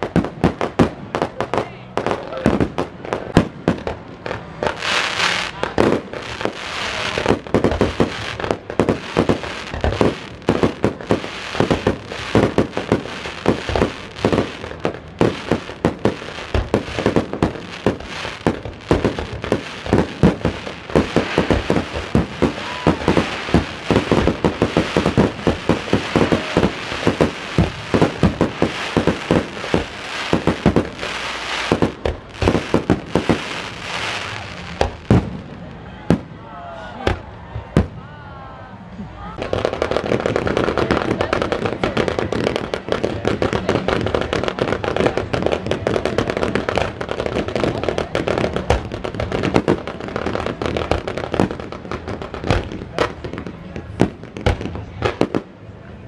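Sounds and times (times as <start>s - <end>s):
fireworks bursting: 0.0s - 38.0s, 39.4s - 55.8s.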